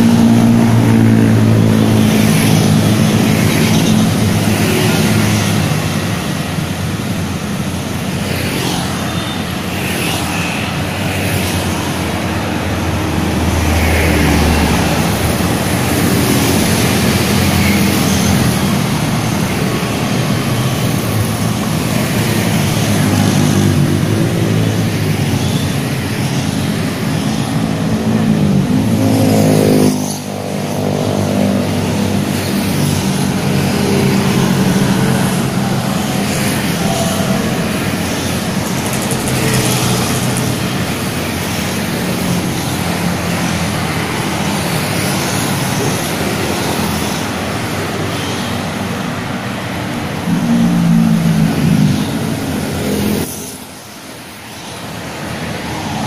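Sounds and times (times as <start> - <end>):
cars passing: 0.0 - 56.0
motorcycles passing: 0.0 - 56.0.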